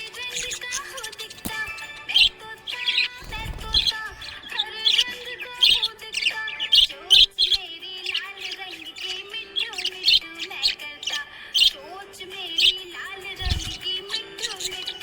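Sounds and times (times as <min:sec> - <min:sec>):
parrots chirping: 0:00.0 - 0:15.0.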